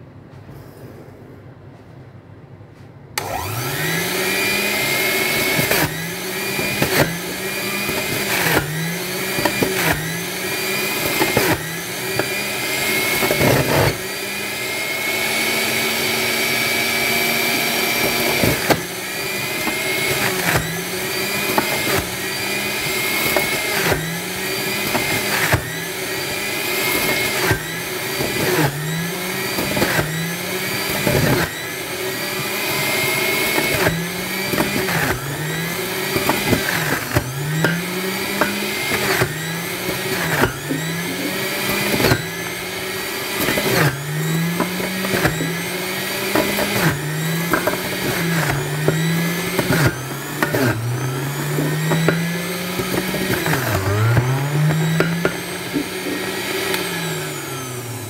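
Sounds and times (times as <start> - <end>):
juicer motor whining: 3.2 - 58.0.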